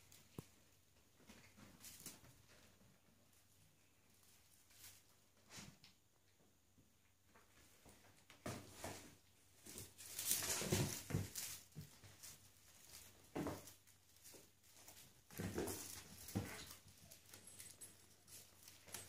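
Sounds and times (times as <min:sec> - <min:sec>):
kittens playing on hard floor: 0:00.0 - 0:19.0.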